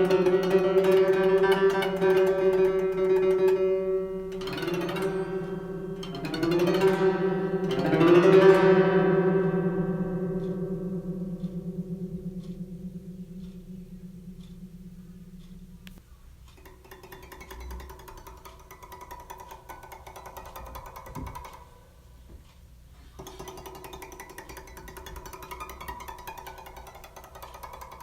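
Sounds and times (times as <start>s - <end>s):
plucked string instrument sliding notes: 0.0s - 21.9s, 23.2s - 28.0s.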